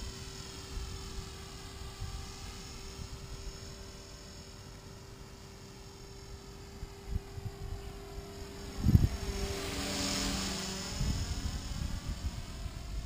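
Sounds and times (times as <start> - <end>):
rc helicopter motor and rotor whine: 0.0 - 13.0.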